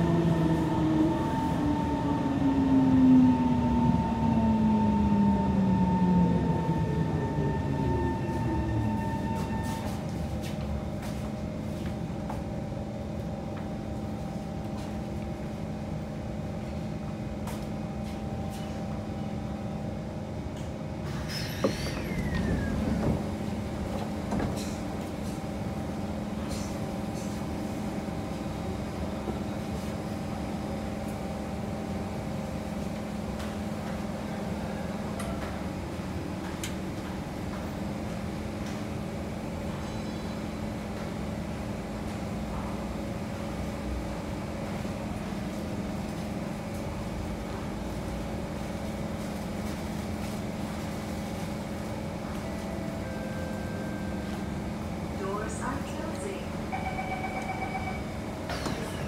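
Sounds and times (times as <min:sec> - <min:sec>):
metro car rumble: 0:00.0 - 0:59.0.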